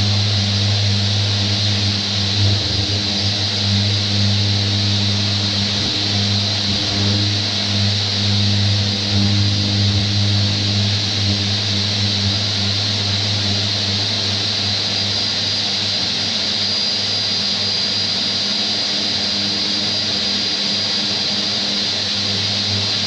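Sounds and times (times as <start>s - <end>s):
orbital sander running: 0.0s - 23.0s.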